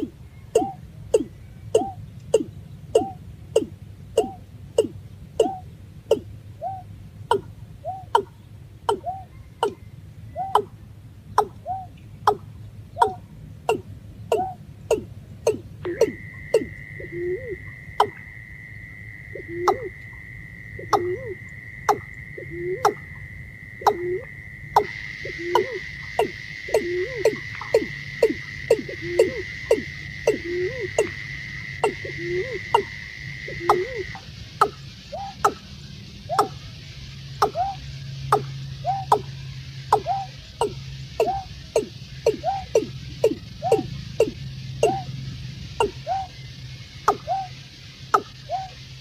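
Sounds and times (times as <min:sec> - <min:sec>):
bird calling falling notes: 0:00.0 - 0:10.8, 0:11.4 - 0:36.8, 0:37.4 - 0:48.9
high-pitched whine: 0:00.0 - 0:49.0
low hum: 0:00.0 - 0:49.0.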